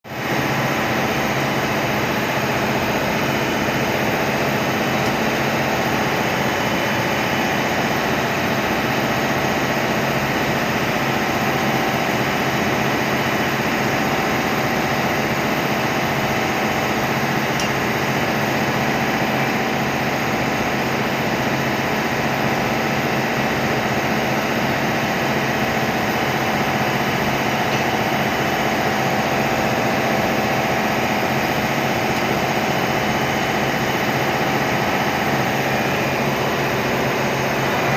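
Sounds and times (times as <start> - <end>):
ship machinery droning: 0.2 - 37.9.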